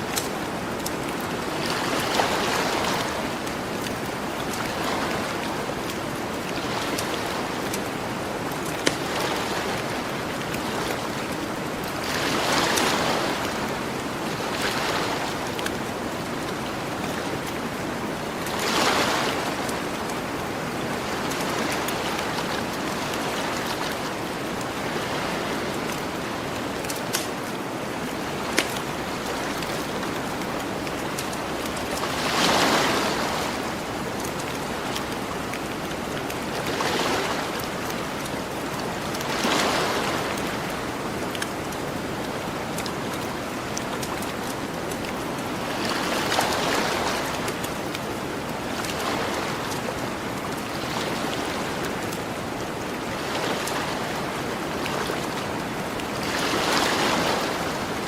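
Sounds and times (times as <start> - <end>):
ocean waves on beach: 0.0 - 58.0.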